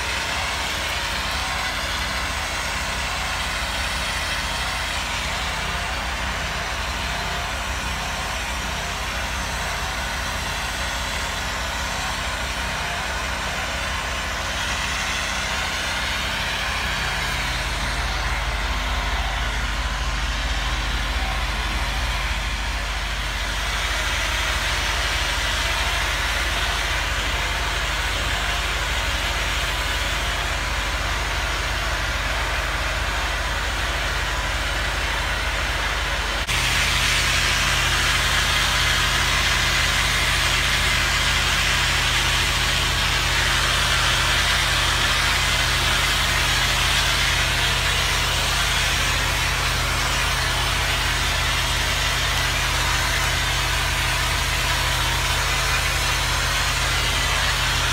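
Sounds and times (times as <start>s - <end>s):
pressure washer engine drone: 0.0s - 57.9s.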